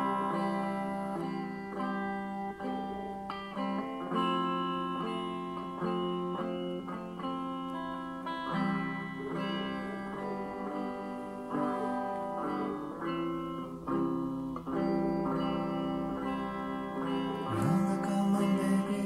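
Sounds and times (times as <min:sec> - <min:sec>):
guitar playing blues chords: 0:00.0 - 0:19.0.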